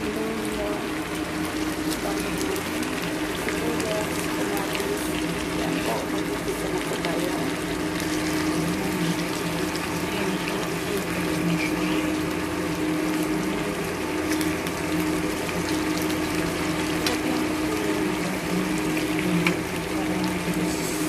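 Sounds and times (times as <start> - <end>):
sauce bubbling and sizzling: 0.0 - 21.0.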